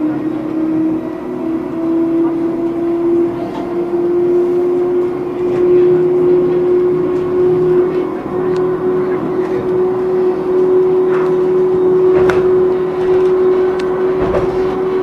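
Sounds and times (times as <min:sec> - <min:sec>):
vehicle engine hum and rumble: 0:00.0 - 0:15.0.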